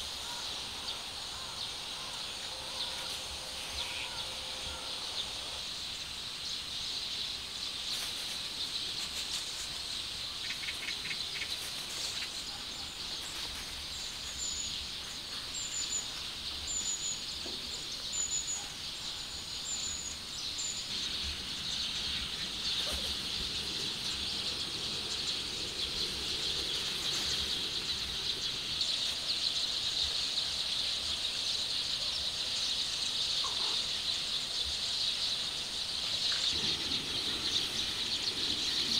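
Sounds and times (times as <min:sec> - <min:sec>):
bird chirping: 0:00.0 - 0:38.9
steady high-pitched hiss: 0:00.0 - 0:38.9.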